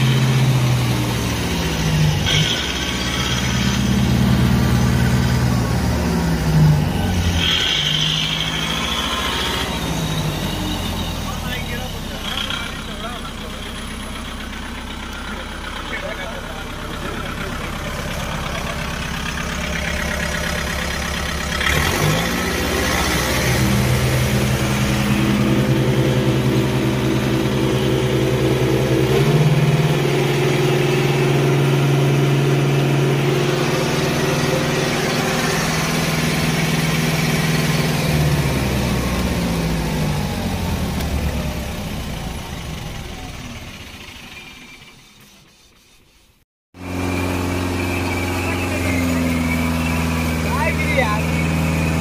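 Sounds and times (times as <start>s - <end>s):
tractor diesel engine revving: 0.0s - 45.6s, 46.8s - 52.0s.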